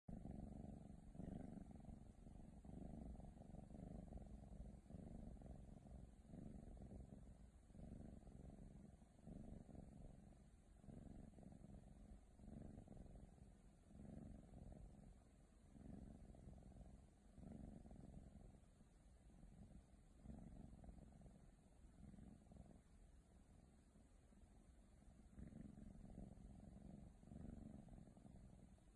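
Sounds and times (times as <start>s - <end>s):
kitten purring: 0.0s - 28.9s.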